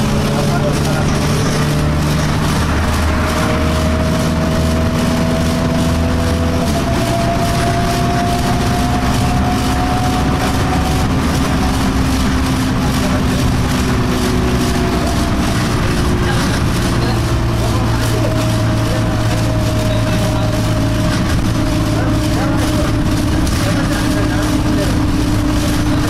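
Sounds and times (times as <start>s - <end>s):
bus engine running: 0.0s - 26.0s
rising whine: 0.0s - 26.0s.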